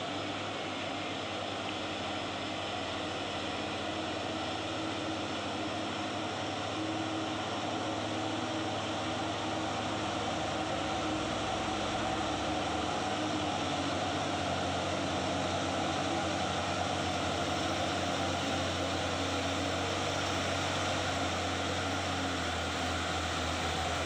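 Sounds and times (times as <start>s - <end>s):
second truck engine running: 0.0s - 24.0s
truck diesel engine climbing: 0.0s - 24.0s.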